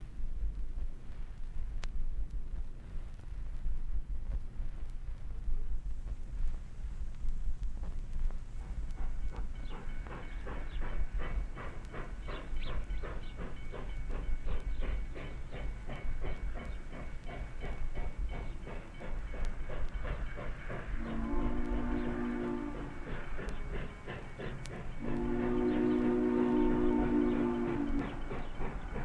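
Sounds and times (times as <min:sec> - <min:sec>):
steam locomotive chuffing: 0:05.4 - 0:29.0.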